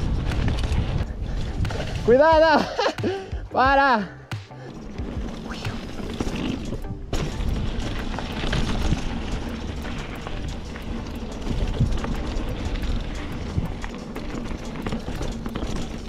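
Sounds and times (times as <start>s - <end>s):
wind buffeting microphone: 0.0s - 3.3s, 4.9s - 16.0s
mountain bike rattling and knocking: 0.0s - 16.0s.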